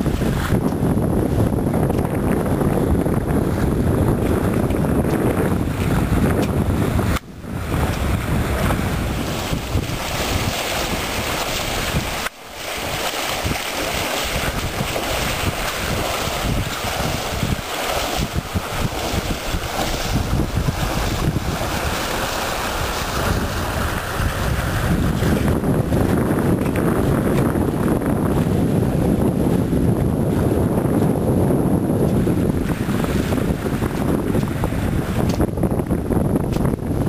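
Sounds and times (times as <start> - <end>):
water rushing along a hull: 0.0 - 37.0
wind buffeting the microphone: 0.0 - 37.0.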